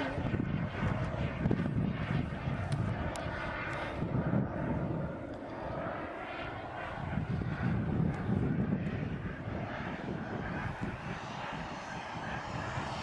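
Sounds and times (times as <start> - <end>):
model jet turbine rushing: 0.0 - 13.0.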